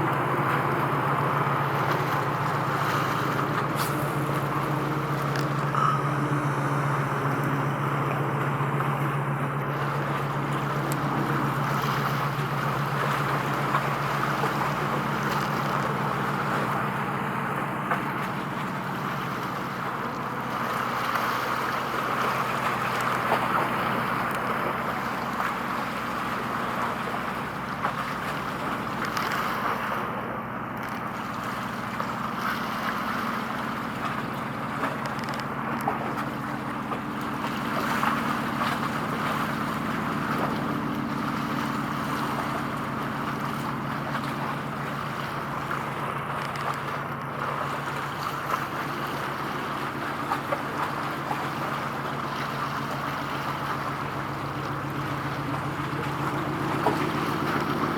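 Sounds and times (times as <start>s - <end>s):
water washing: 0.0s - 29.9s, 31.3s - 57.9s
ship engine humming: 0.0s - 57.9s.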